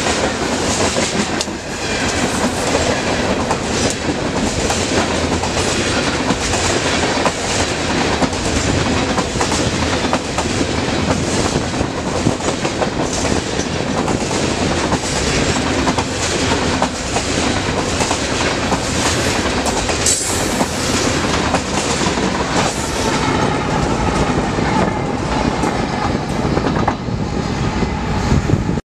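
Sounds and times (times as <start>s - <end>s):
freight train wheel clatter: 0.0s - 27.3s
diesel locomotives passing: 0.0s - 28.8s.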